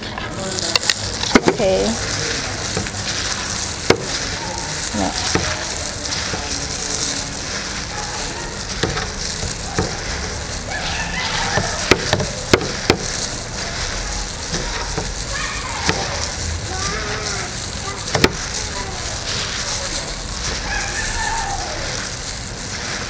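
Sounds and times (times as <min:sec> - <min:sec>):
hands squishing wet noodles: 0:00.2 - 0:23.0.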